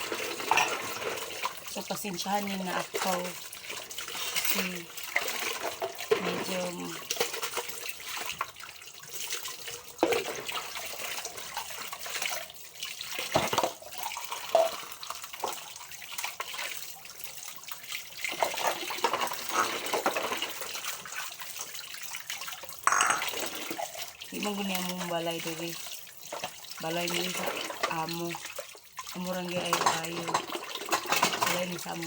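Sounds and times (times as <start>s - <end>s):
tap water running into sink: 0.0s - 32.0s.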